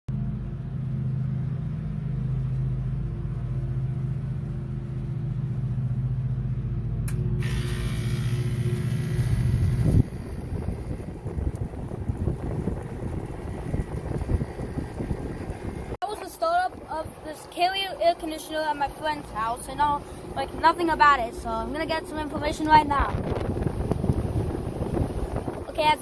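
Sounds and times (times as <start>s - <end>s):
compressor hum: 0.1s - 26.0s
condenser fan rushing air: 0.2s - 26.0s.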